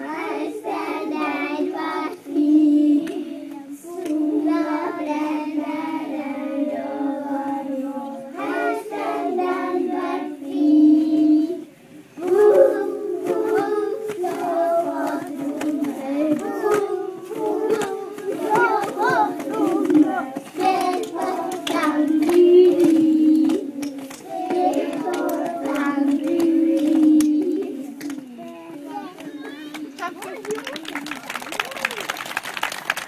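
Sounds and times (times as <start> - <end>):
young children singing: 0.0 - 30.1.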